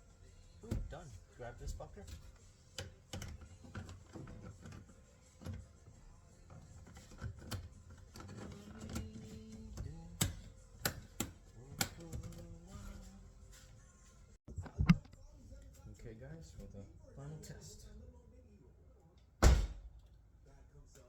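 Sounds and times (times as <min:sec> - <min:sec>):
faint music: 0:00.0 - 0:21.0.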